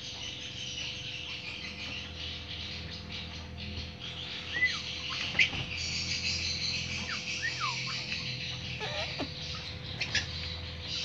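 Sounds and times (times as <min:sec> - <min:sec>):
bird chirping calls: 0:00.0 - 0:11.0.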